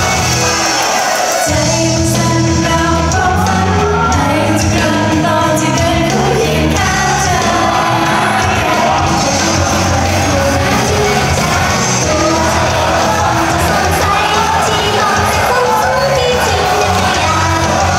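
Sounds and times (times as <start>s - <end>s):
pop backing track: 0.0s - 17.9s
female group vocals singing: 1.4s - 17.9s.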